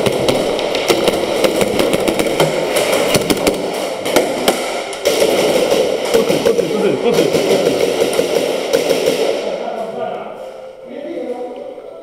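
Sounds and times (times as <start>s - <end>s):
airsoft gunfire: 0.0s - 9.7s
noisy background: 0.0s - 12.0s.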